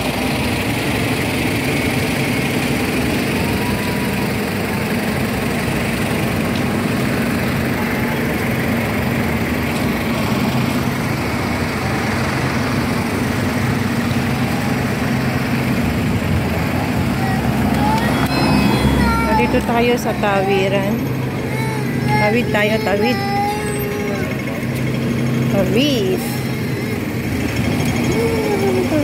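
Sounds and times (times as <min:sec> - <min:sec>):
motor idling: 0:00.0 - 0:29.0
road traffic: 0:00.0 - 0:29.0.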